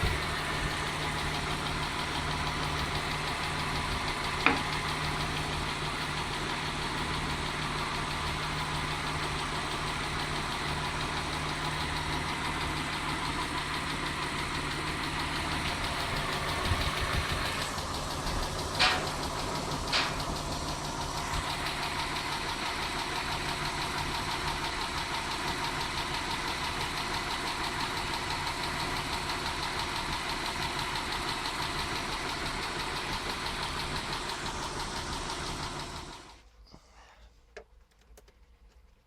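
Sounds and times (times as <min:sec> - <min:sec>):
car engine idling: 0:00.0 - 0:36.6.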